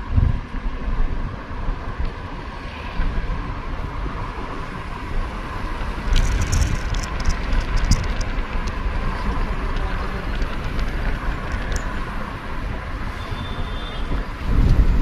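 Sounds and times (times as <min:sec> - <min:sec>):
vehicle driving on road: 0:00.0 - 0:15.0
wind noise on microphone: 0:00.0 - 0:15.0.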